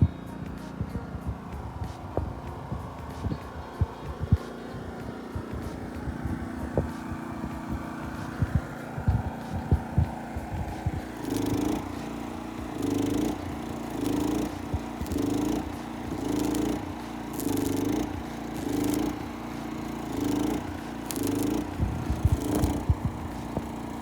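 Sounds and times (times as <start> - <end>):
steady motor hum: 0.0 - 24.0.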